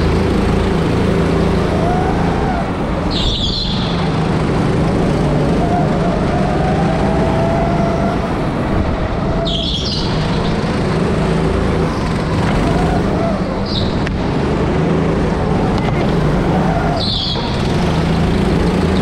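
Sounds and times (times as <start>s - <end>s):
go-karts running: 0.0s - 19.0s.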